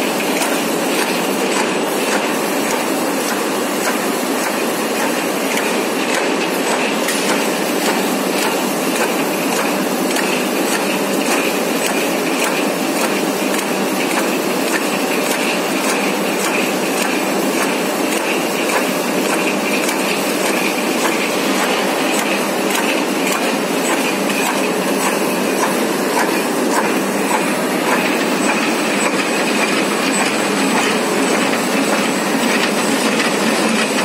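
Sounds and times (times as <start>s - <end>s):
mill machine clattering: 0.3s - 34.0s.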